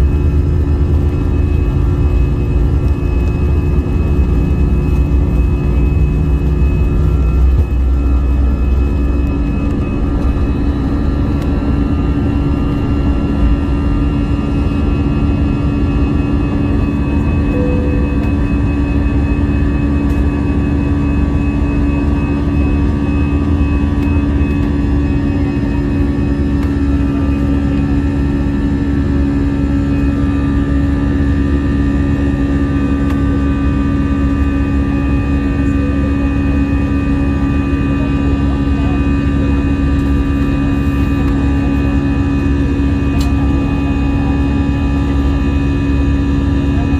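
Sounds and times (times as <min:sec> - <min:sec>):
high engine whine: 0:00.0 - 0:46.9
jet engine rumble in cabin: 0:00.0 - 0:46.9
steady hum: 0:00.0 - 0:46.9.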